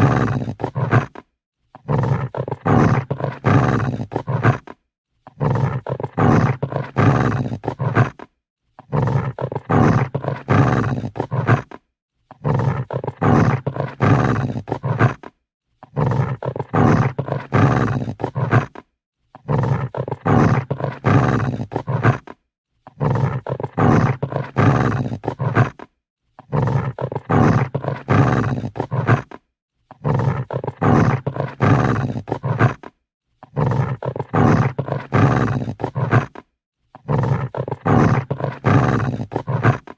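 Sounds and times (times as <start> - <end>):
dog growling: 0.0 - 39.9.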